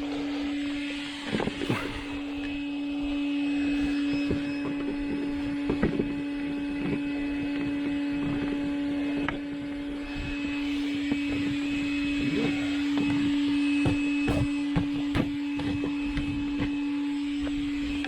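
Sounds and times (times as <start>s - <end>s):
electric air pump humming: 0.0s - 18.0s.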